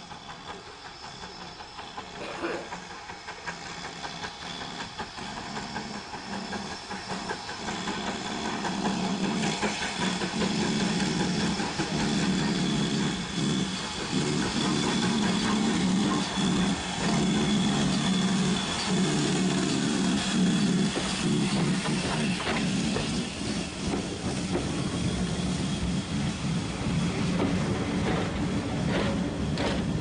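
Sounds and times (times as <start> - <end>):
steam locomotive rhythmic pulsing: 0.0 - 30.0.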